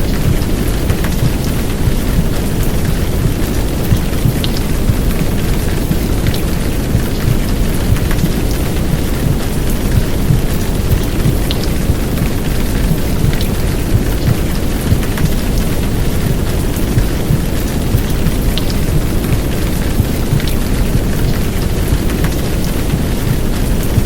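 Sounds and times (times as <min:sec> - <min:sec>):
heavy rain hiss: 0:00.0 - 0:24.0
sharp raindrop ticks: 0:00.0 - 0:24.0.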